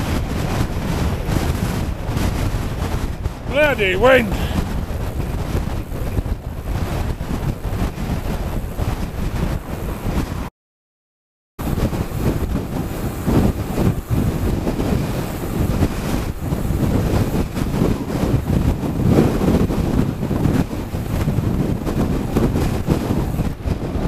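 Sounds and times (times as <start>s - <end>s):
wind buffeting microphone: 0.0s - 10.5s, 11.6s - 24.0s.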